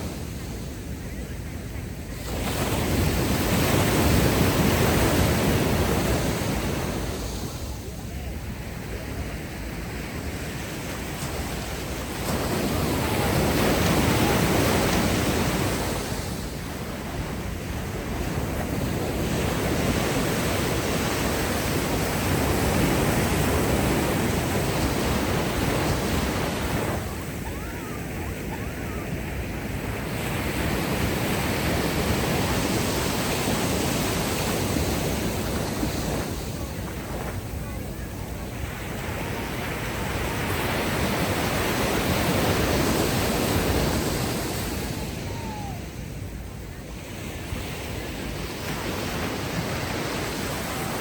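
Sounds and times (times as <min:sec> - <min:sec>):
ocean waves washing on beach: 0:00.0 - 0:51.0.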